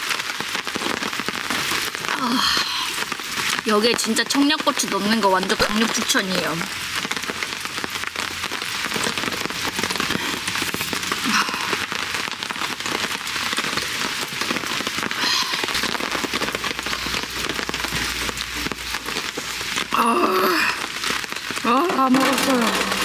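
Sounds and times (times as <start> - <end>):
rain pattering on a tarp: 0.0 - 23.0.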